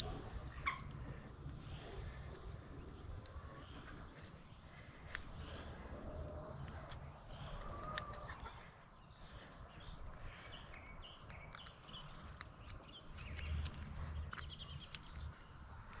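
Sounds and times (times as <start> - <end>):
faint bird chirps and clucks: 0.0 - 16.0.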